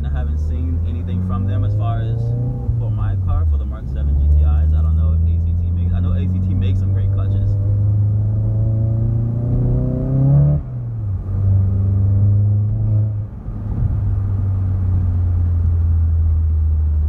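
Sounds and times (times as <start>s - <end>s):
car engine pulling through gears: 0.0s - 17.0s.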